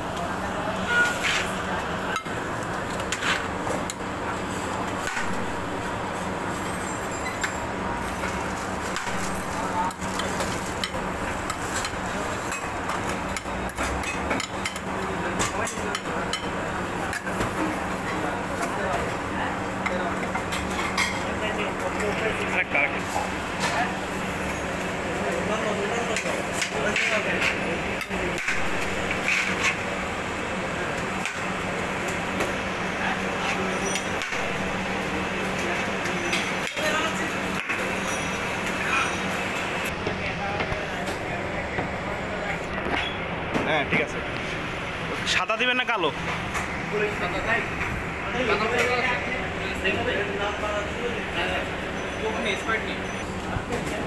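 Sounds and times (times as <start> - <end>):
constant mechanical hum: 0.0 - 54.0
room and street noise: 0.0 - 54.0.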